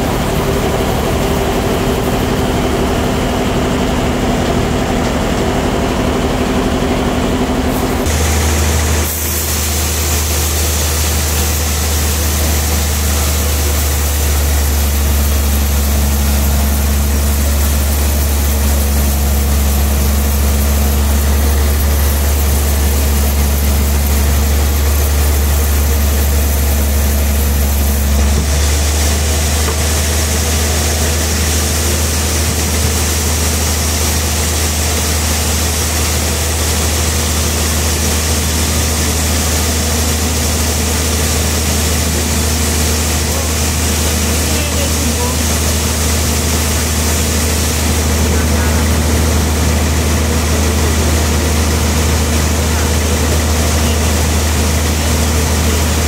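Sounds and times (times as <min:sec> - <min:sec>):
sawmill drive humming: 0:00.0 - 0:56.0.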